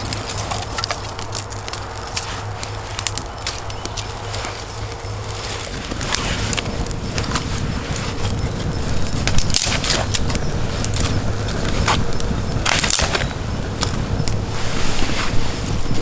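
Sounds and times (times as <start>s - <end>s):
dry branch snapping: 0.0s - 14.5s
steady low rumble: 0.0s - 16.0s.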